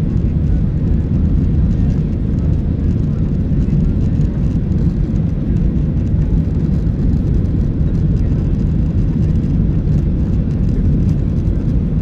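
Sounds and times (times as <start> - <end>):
jet engine roar in cabin: 0.0 - 12.0.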